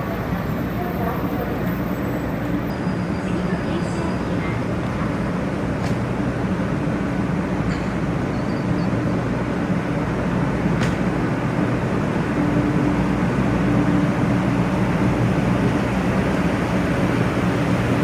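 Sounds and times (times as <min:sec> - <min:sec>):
train rolling and air noise: 0:00.0 - 0:18.0.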